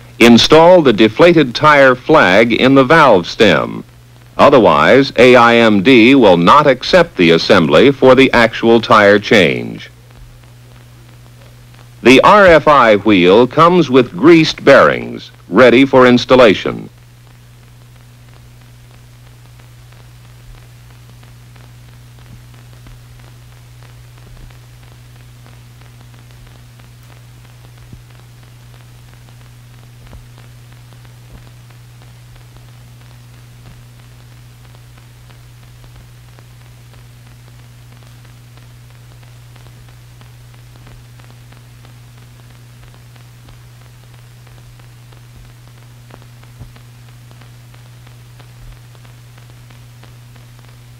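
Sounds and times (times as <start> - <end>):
electrical hum with hiss: 0.0 - 50.9.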